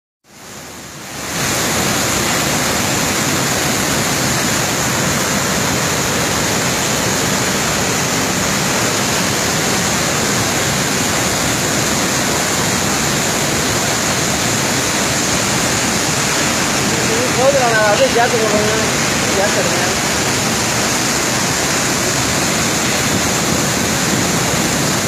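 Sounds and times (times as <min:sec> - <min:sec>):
waterfall rushing: 0:00.3 - 0:25.0.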